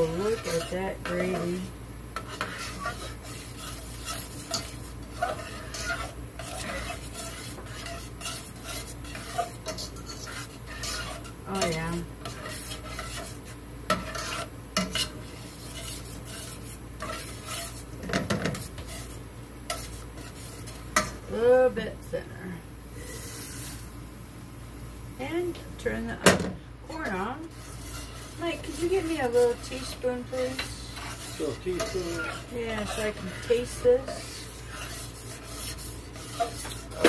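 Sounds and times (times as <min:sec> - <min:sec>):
whisk scraping a saucepan: 0:00.0 - 0:21.3, 0:23.0 - 0:24.0, 0:26.9 - 0:37.0
gravy sizzling: 0:00.0 - 0:26.2, 0:26.8 - 0:37.0.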